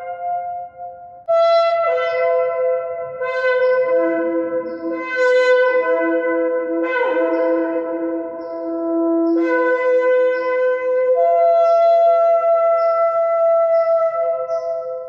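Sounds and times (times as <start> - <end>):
shofar horn blasts: 0.0 - 15.0.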